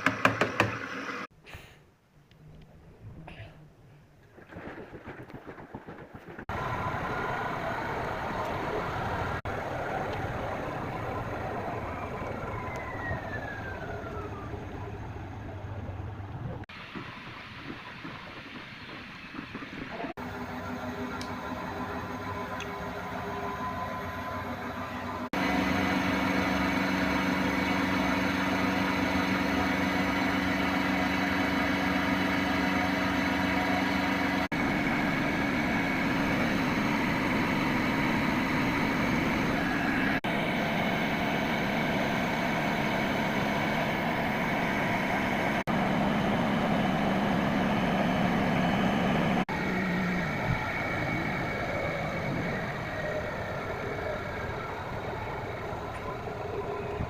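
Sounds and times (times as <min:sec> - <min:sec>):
washing machine whirring: 0:00.0 - 0:01.3, 0:05.8 - 0:57.0.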